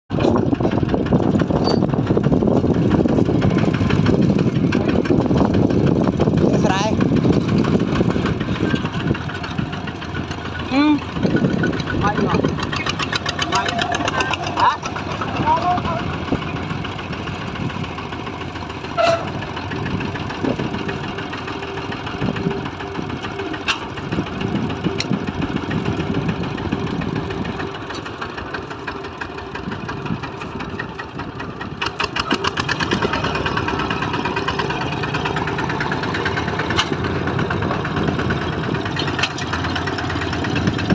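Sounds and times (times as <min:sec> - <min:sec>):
hand tractor engine chugging: 0:00.1 - 0:40.9.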